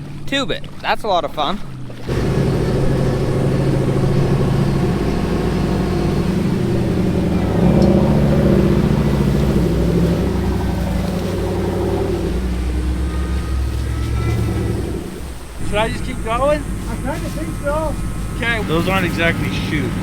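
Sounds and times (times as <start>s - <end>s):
vehicle engine revving: 1.6s - 20.0s.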